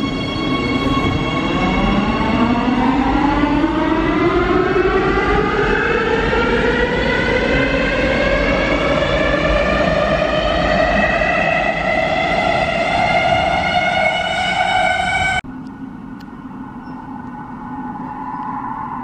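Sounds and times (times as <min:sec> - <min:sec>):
train wheels rumbling: 0:00.0 - 0:15.4
train traction motors whining: 0:00.0 - 0:16.7.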